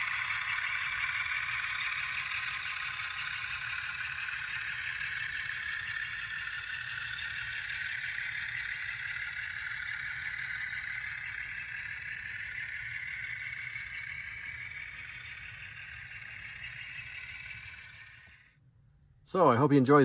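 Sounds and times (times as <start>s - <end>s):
model train wheels on rails: 0.0s - 18.5s.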